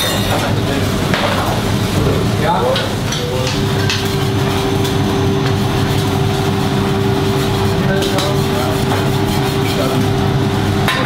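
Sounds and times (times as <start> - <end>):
extraction hood drone: 0.6 - 11.0.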